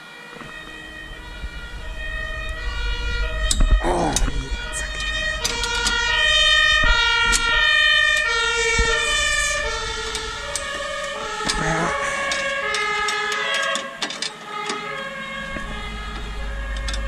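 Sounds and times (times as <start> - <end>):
low rumble: 0.4 - 12.7, 15.2 - 17.0.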